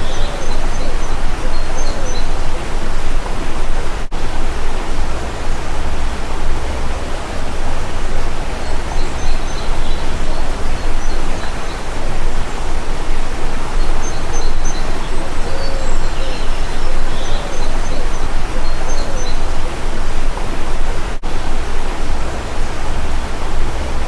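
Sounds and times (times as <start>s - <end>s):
faint bird chirps: 0.0s - 24.0s
rushing outdoor noise: 0.0s - 24.0s.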